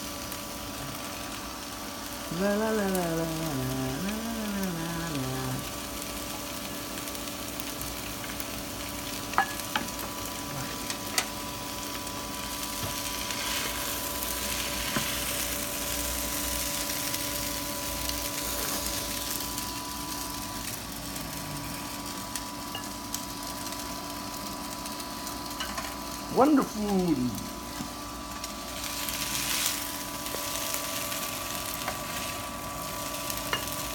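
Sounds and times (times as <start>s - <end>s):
food sizzling in a wok: 0.0s - 33.9s.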